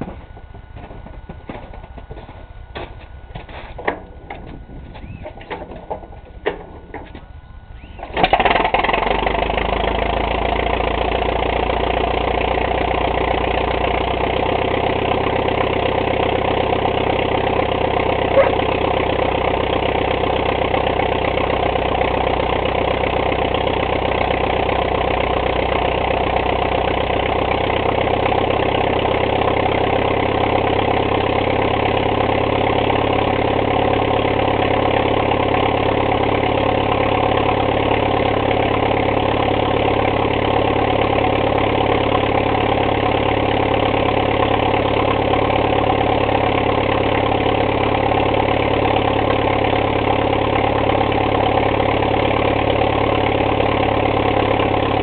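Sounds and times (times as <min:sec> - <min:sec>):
tractor engine starting and idling: 0:00.0 - 0:55.0.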